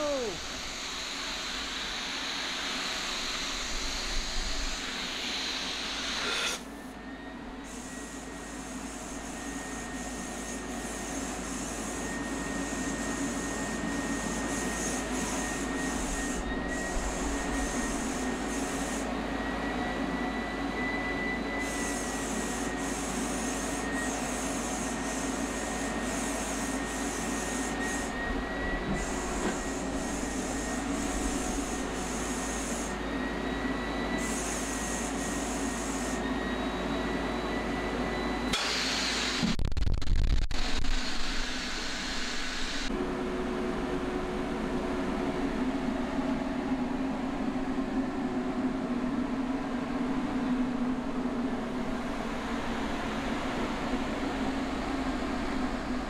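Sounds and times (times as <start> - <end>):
paint spray system running: 0.0 - 6.7, 7.6 - 39.6, 40.8 - 56.0.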